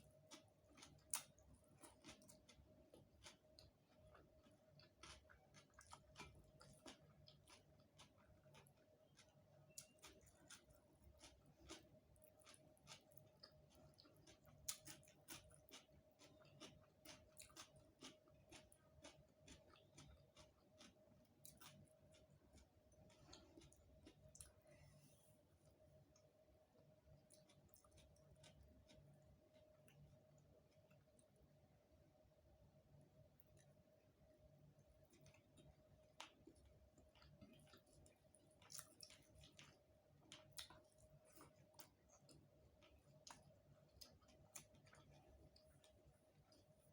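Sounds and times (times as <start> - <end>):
chewing with wet mouth clicks: 0.0 - 24.6, 27.0 - 31.4, 33.4 - 33.9, 34.8 - 46.9
faint steady hum: 0.0 - 46.9.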